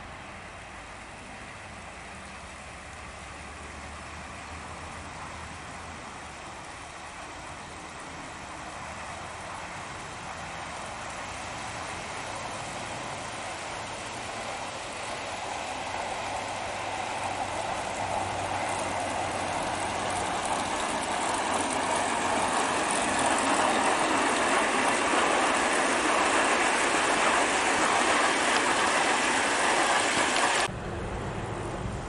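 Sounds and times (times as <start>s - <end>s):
model train running: 0.0s - 30.7s.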